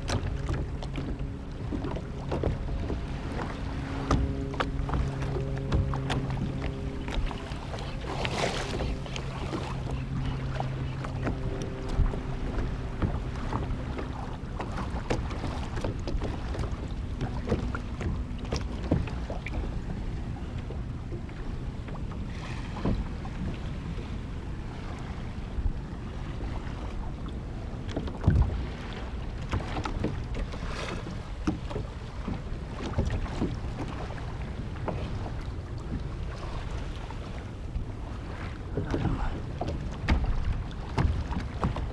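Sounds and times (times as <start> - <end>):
water splashing around kayak: 0.0 - 41.9.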